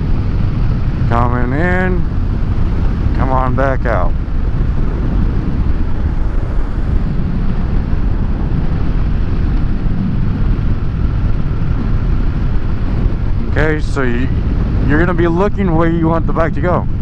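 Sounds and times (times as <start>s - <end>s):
motorcycle engine rumbling: 0.0s - 17.0s
wind rushing over microphone: 0.0s - 17.0s.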